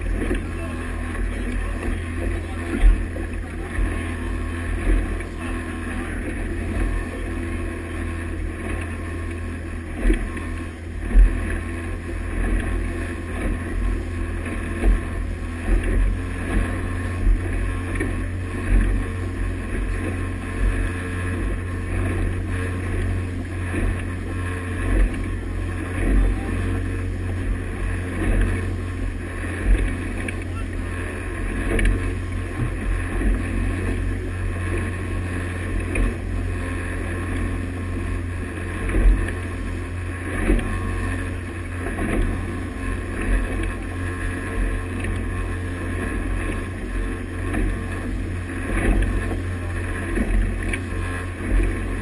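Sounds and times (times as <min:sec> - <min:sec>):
churning wake rushing: 0:00.0 - 0:52.0
motorboat engine drone: 0:00.0 - 0:52.0.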